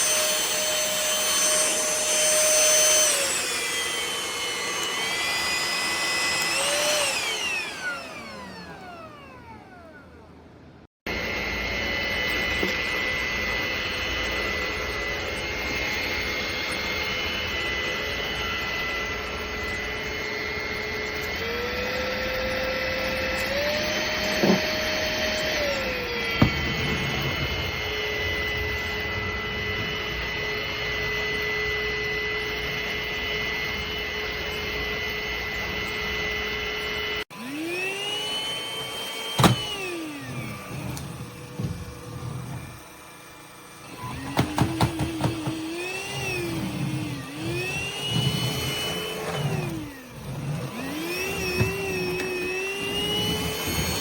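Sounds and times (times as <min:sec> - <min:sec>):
vacuum motor whining: 0:00.0 - 0:54.0.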